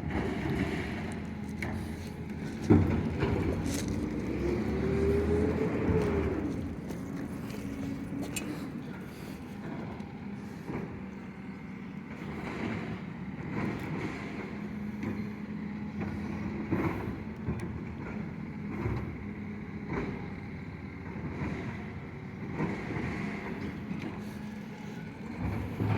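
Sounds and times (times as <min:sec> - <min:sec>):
garbage truck engine hum: 0:00.0 - 0:25.9.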